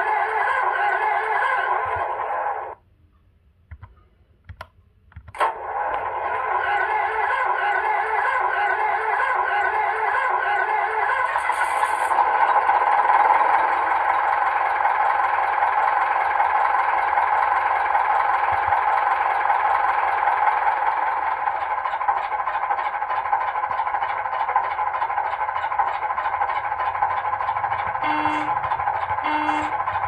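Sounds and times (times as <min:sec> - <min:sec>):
diesel engine idling through small speaker: 0:00.0 - 0:02.8, 0:05.4 - 0:30.0.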